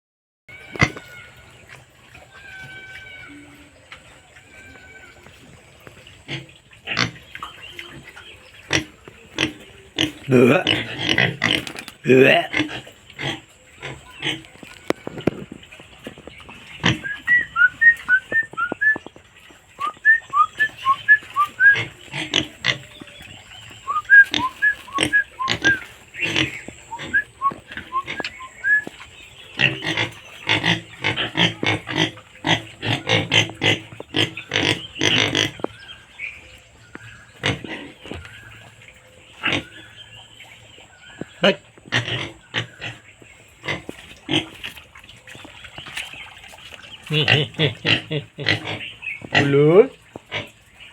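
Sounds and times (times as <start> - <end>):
pigs grunting and squealing: 0.5 - 36.0, 37.0 - 50.9.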